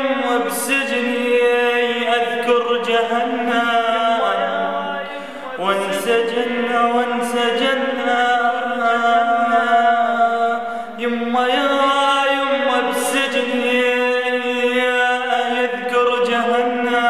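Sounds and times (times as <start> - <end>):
man singing long ornamented notes: 0.0 - 17.0.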